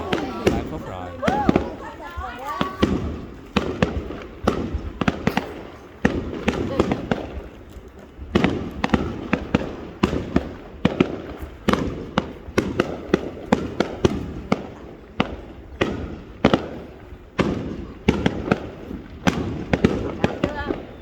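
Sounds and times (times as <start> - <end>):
fireworks bangs echoing: 0.0 - 21.0.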